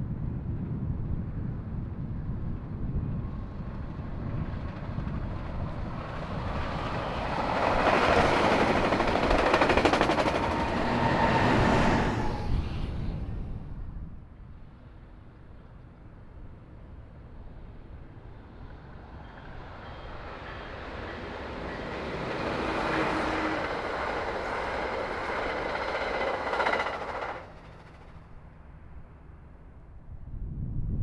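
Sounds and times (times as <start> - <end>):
train passing: 1.3 - 29.8.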